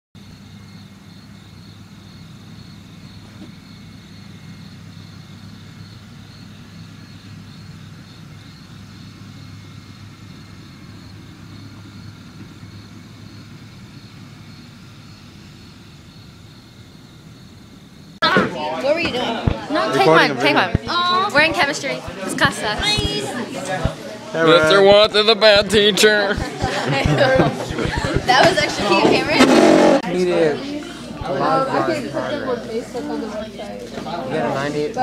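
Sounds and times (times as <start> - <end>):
vehicle driving hum: 0.2 - 35.0.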